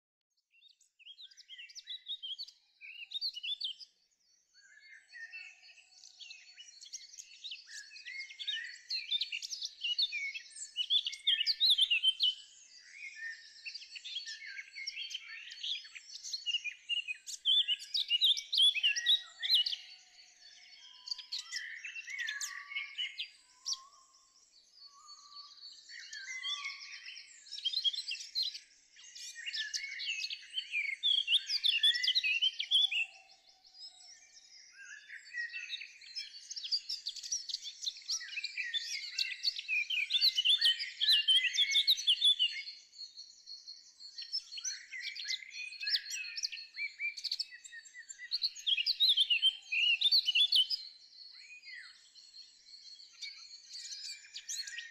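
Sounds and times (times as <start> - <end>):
birds chirping and trilling: 0.5 - 54.9.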